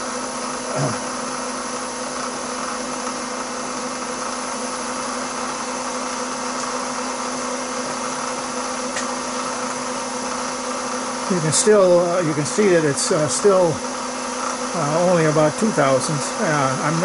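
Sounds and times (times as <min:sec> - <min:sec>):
milling machine motor hum: 0:00.0 - 0:17.0.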